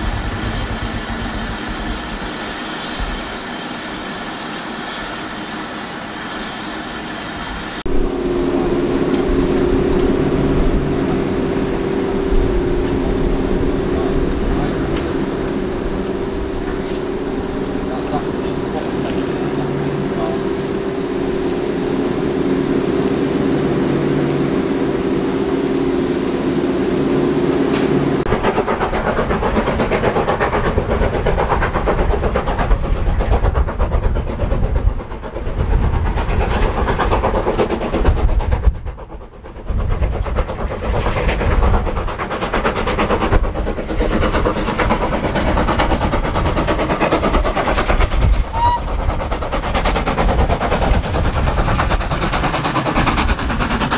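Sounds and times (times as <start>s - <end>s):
steam locomotive chuffing: 0.0s - 53.9s
steady low hum: 7.8s - 53.9s.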